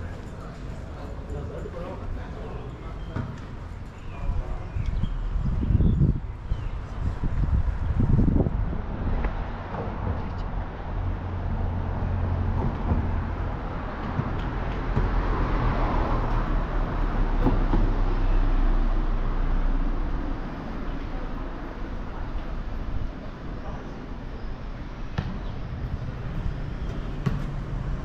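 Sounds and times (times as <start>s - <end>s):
tyre and road noise: 0.0s - 28.0s.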